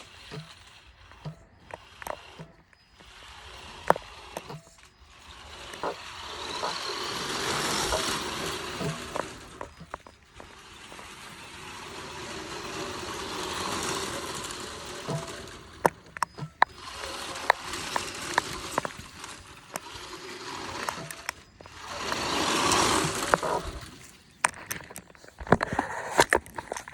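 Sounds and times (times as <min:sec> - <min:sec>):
toy truck driving past: 0:00.0 - 0:26.9.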